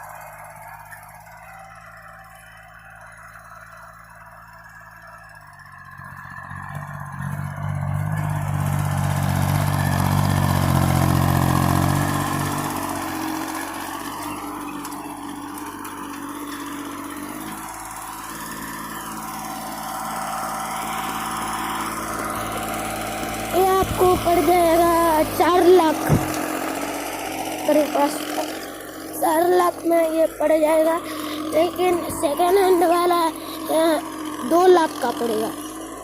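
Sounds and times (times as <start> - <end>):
small tractor engine running: 0.0 - 36.0.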